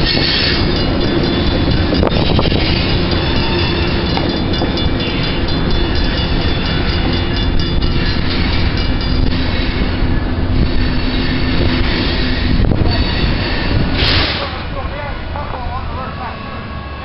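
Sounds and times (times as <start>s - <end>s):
diesel locomotive hum: 0.0s - 17.0s
freight train rumbling past: 0.0s - 17.0s.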